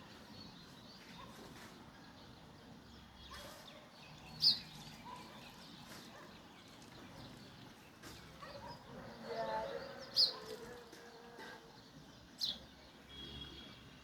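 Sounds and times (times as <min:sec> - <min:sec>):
sparrows chirping: 0:00.0 - 0:14.0.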